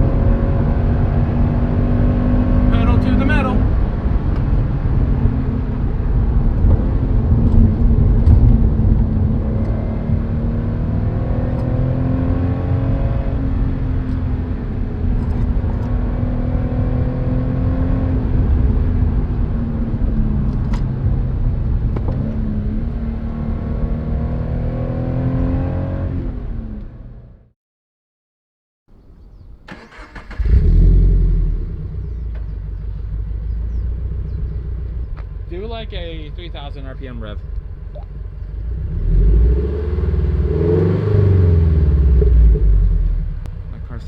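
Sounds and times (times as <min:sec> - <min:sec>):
car engine running while driving: 0:00.0 - 0:27.5, 0:30.3 - 0:44.0.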